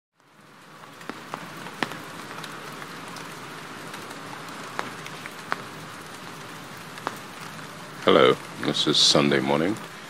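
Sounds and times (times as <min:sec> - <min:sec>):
steady rain: 0:00.1 - 0:10.0
single raindrops ticking: 0:00.2 - 0:08.8.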